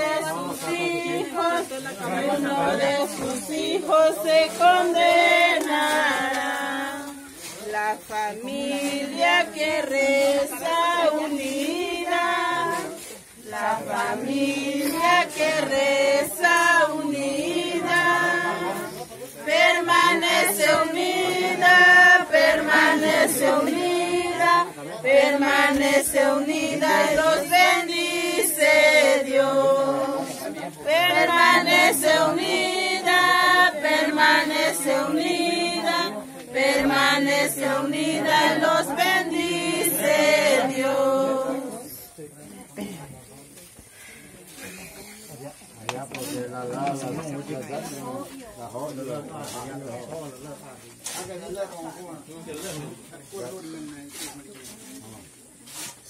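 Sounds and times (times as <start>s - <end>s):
group singing unaccompanied: 0.0s - 42.4s, 45.9s - 50.6s.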